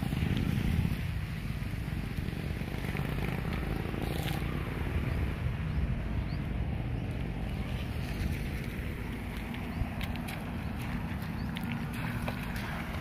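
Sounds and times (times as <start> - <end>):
distant traffic: 0.0 - 13.0
wind buffeting microphone: 0.0 - 13.0.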